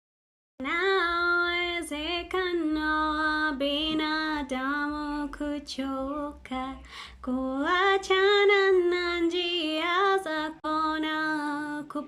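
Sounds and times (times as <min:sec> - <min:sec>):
woman singing worship song: 0:00.6 - 0:12.0.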